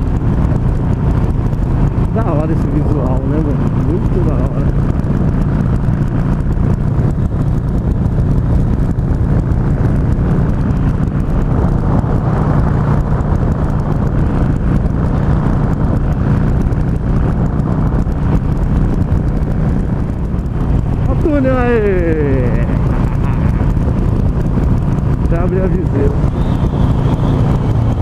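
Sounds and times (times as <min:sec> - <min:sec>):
motorcycle engine cruising: 0:00.0 - 0:28.0
wind noise on microphone: 0:00.0 - 0:28.0.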